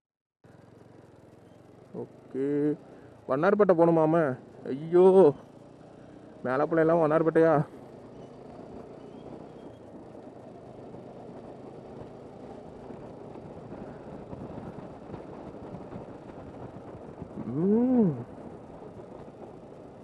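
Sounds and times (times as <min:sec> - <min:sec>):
motorcycle engine drone: 0:00.4 - 0:20.0
wind and road noise: 0:00.4 - 0:20.0.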